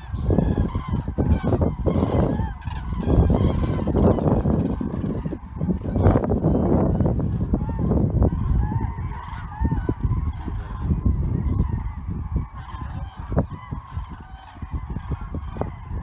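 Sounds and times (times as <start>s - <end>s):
cranes trumpeting calls: 0.0s - 16.0s
low gusty rumble: 0.0s - 16.0s.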